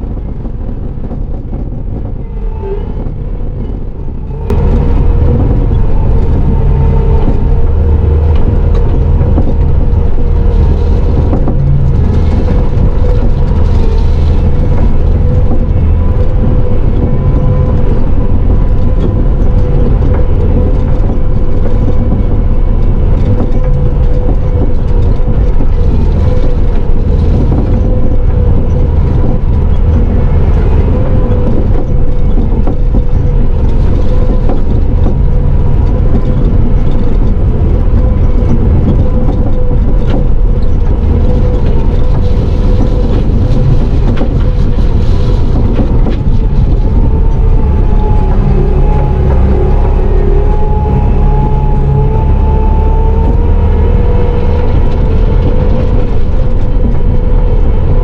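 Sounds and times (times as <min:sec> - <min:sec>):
diesel engine running with high whine: 0:00.0 - 0:58.0.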